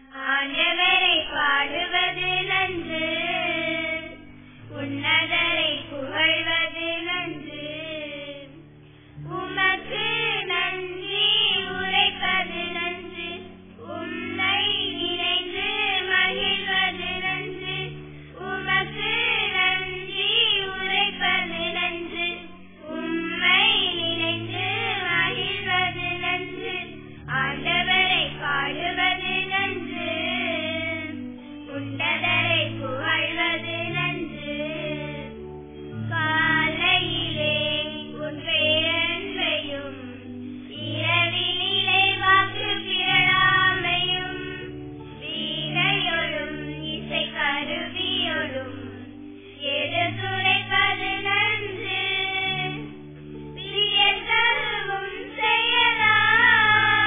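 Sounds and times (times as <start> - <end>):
girls singing a hymn: 0.0 - 57.0.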